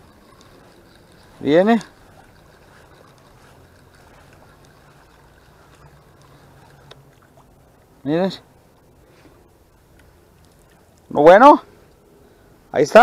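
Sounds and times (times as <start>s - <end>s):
fishing reel whirring: 0.0s - 11.1s
wind and water: 0.0s - 13.0s.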